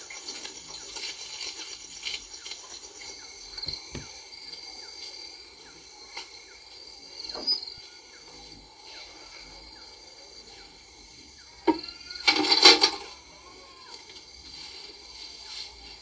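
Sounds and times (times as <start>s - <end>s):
high insect trilling: 0.0s - 16.0s.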